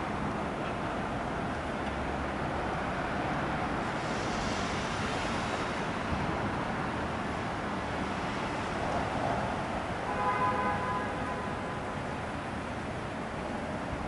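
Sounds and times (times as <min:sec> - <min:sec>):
steady rushing noise: 0:02.6 - 0:14.0.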